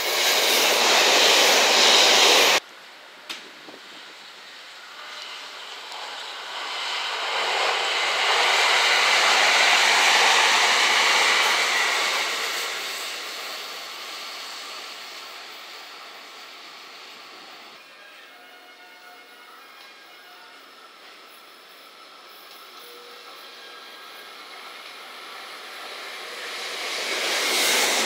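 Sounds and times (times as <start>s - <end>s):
train wheels on rails: 0.0s - 2.6s, 3.2s - 17.8s, 22.2s - 28.0s.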